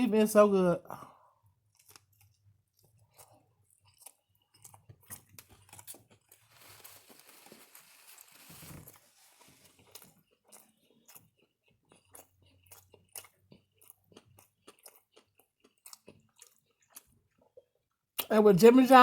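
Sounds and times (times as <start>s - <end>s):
chewing sandwich: 1.4s - 18.2s.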